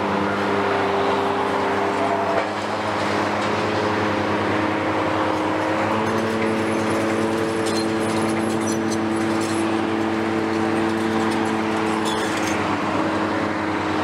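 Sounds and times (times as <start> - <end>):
excavator diesel engines running: 0.0 - 14.0.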